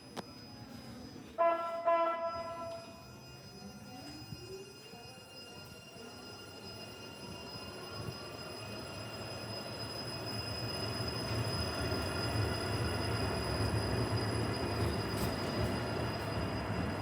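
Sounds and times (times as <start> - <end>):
train rumbling on rails: 0.9 - 17.0.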